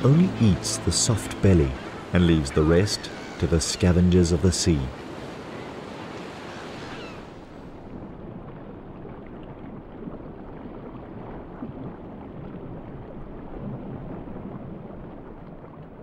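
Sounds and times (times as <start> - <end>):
sea water lapping: 0.0 - 16.0.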